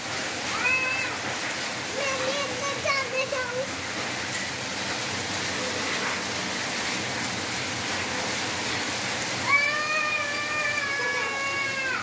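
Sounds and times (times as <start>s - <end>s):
rain splashing on concrete: 0.0s - 12.0s.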